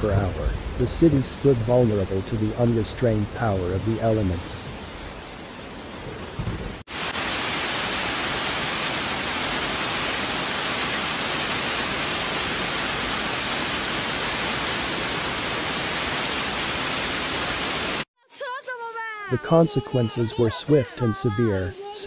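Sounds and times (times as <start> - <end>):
heavy rain and hail: 0.0 - 18.0.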